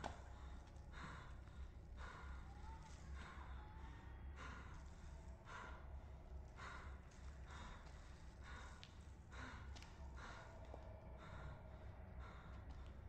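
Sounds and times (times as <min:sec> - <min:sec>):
man breathing heavily: 0:00.0 - 0:13.0.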